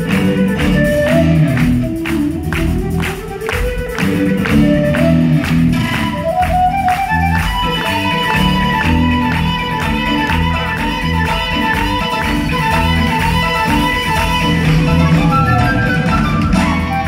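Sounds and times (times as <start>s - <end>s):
drum beat: 0.0s - 17.0s
electric bass: 0.0s - 17.0s
flute: 0.0s - 17.0s.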